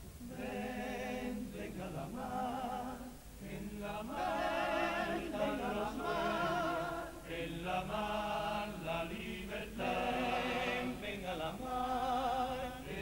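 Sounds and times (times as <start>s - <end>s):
choir singing in harmony: 0.2s - 13.0s.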